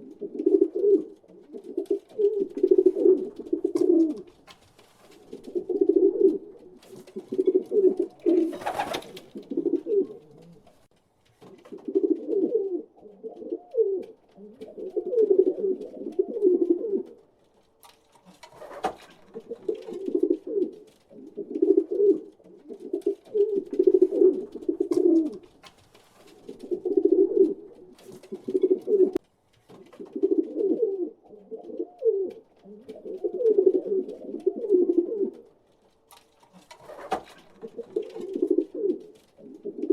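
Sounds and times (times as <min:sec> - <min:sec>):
pigeons cooing: 0:00.0 - 0:04.5, 0:05.1 - 0:10.9, 0:11.6 - 0:17.2, 0:18.5 - 0:25.6, 0:26.3 - 0:29.2, 0:30.0 - 0:35.5, 0:36.5 - 0:39.9.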